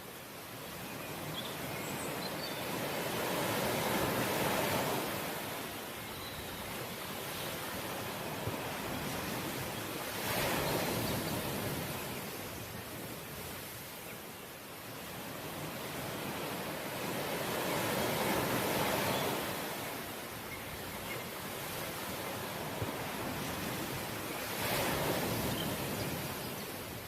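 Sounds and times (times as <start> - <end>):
ocean waves breaking on shore: 0.0 - 27.0.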